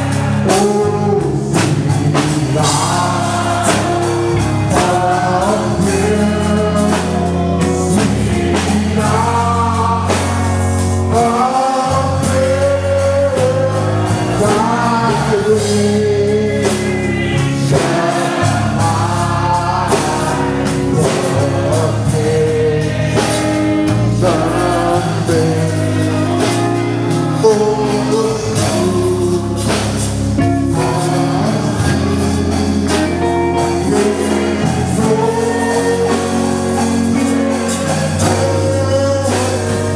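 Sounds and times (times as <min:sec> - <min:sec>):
band accompaniment: 0:00.0 - 0:39.9
group singing gospel: 0:00.0 - 0:39.9.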